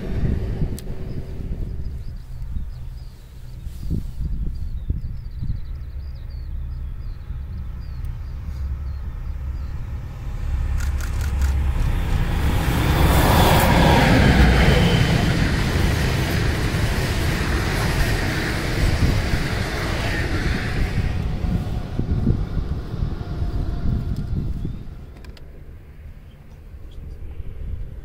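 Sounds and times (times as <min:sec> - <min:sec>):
diesel locomotive passing: 0:00.0 - 0:28.0
wheels rushing on rail: 0:00.0 - 0:28.0.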